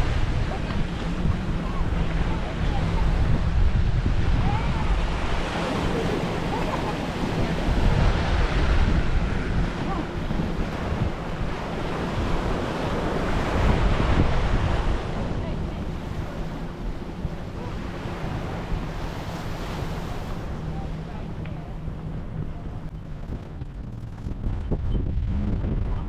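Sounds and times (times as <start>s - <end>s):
small waves washing on sand: 0.0s - 21.7s
wind buffeting microphone: 0.0s - 26.0s.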